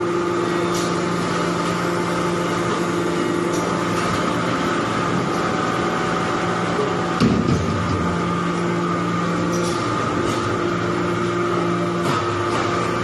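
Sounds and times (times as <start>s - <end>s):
baler machine hum: 0.0s - 13.0s.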